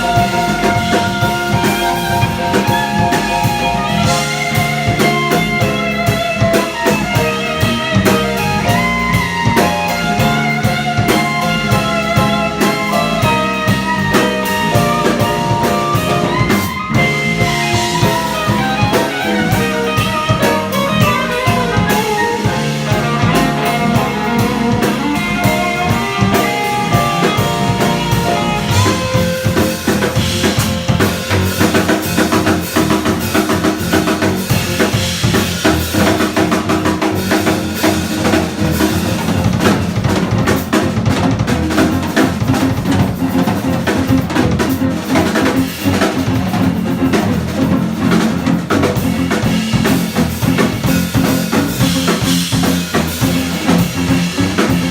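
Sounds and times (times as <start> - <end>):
jazz band playing: 0.0 - 54.9.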